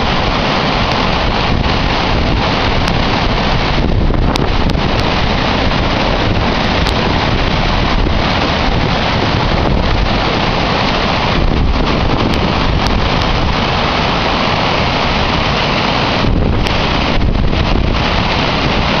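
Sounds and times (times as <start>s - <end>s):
water cascading down dam: 0.0s - 19.0s.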